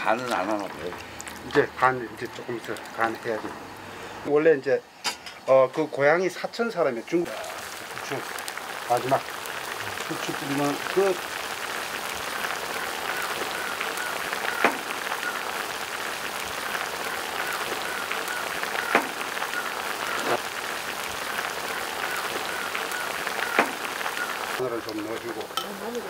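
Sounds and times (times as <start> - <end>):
broth boiling in pot: 0.0 - 4.8, 5.4 - 26.0.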